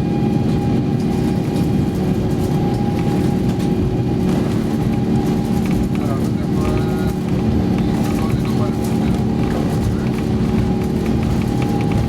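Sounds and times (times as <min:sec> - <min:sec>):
airliner cabin rumble and hum: 0:00.0 - 0:12.0
constant hum tones: 0:00.0 - 0:12.0.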